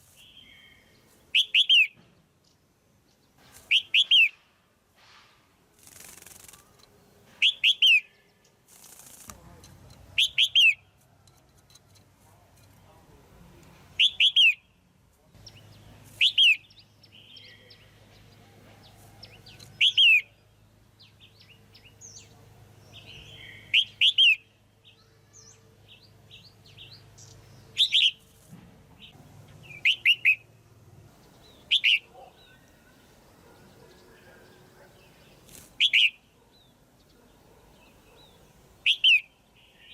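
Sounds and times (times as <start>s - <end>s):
bird calls: 0.1s - 4.4s, 5.9s - 9.0s, 10.0s - 11.0s, 14.0s - 14.6s, 15.4s - 30.5s, 31.2s - 39.9s.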